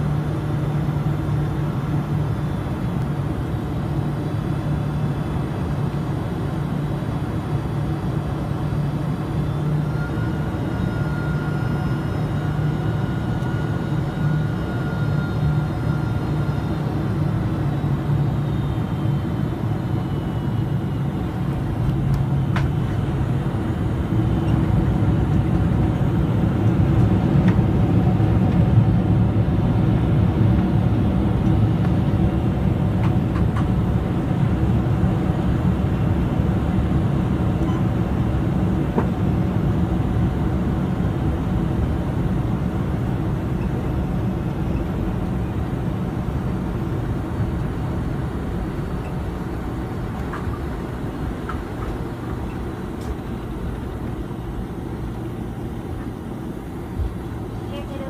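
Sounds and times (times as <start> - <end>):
jet engines in reverse thrust: 0.0 - 58.0
rumble of rolling jet: 0.0 - 58.0.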